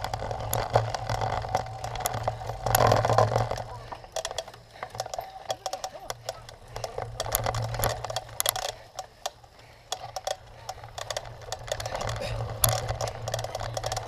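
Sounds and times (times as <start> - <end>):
bicycle chain and frame rattling: 0.0 - 14.0
tyres and wind hum: 0.0 - 14.0.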